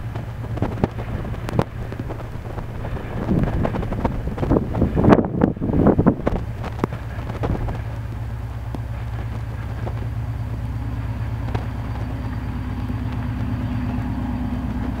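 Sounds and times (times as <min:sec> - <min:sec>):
faint clicks: 0:00.0 - 0:04.8, 0:06.1 - 0:15.0
diesel locomotive engine drone: 0:00.0 - 0:15.0.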